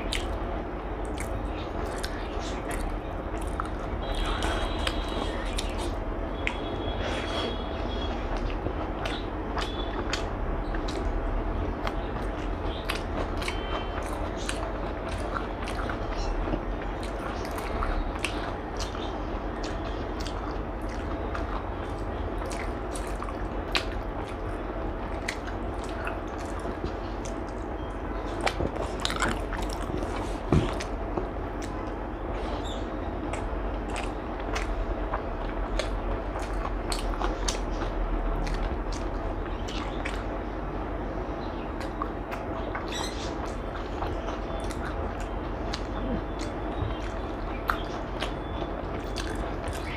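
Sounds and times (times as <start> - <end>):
chewing and biting: 0.0 - 0.4, 1.0 - 7.5, 8.3 - 40.3, 41.7 - 49.9
steady low hum: 0.0 - 49.9.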